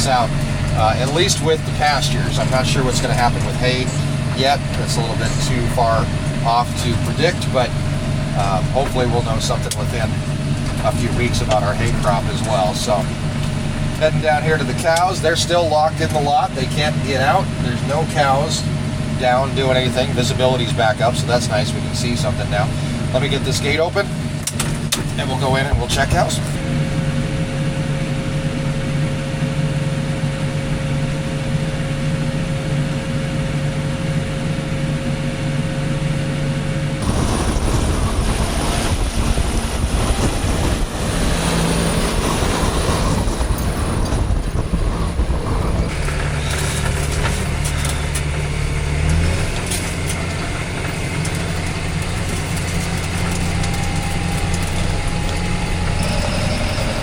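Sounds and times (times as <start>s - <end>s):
pickup truck engine running: 0.0s - 57.0s.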